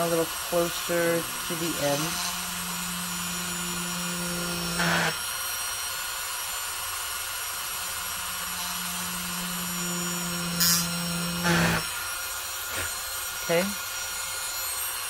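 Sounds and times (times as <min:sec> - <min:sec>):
rotary tool drilling: 0:00.0 - 0:15.0.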